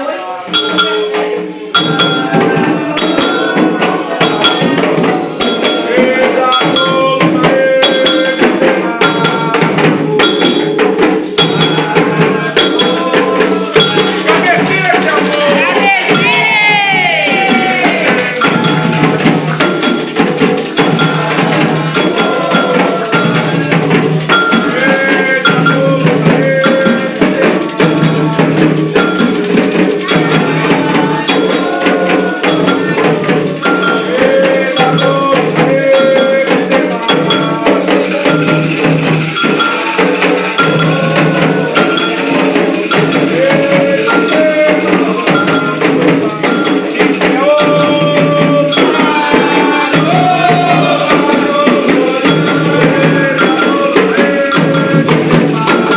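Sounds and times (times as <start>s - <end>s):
hand percussion: 0.0s - 55.9s
person singing: 0.0s - 55.9s
rattle shaking: 0.4s - 55.9s
bell-like strikes: 0.5s - 55.9s.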